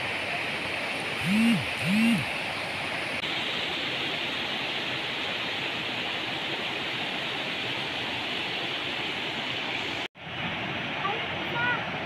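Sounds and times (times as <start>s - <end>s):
river rushing over stones: 2.2s - 12.0s.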